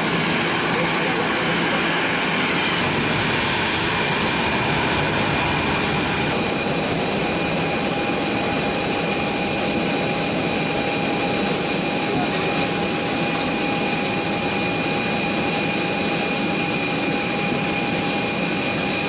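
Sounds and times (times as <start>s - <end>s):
jet engine roar and whine: 0.0s - 19.0s.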